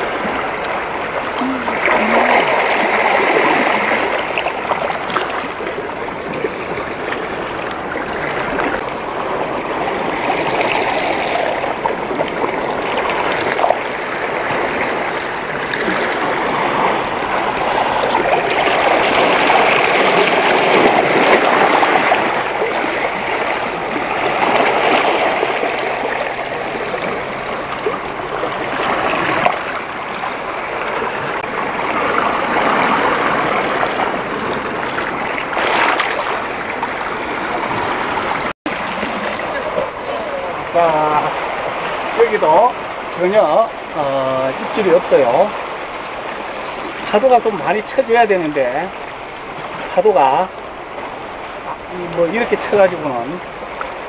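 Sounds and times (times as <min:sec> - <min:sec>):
sea waves splashing over rocks: 0:00.0 - 0:54.0.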